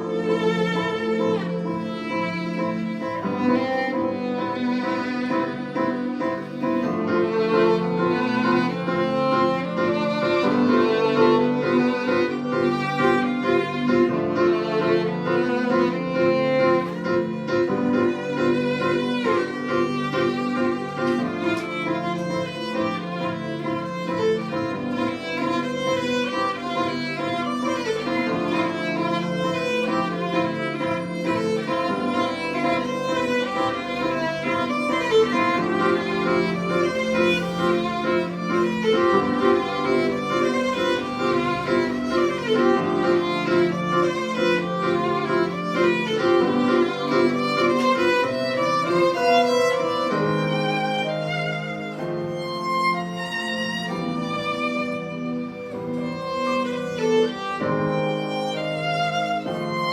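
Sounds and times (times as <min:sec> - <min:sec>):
violin melody: 0:00.0 - 0:59.9.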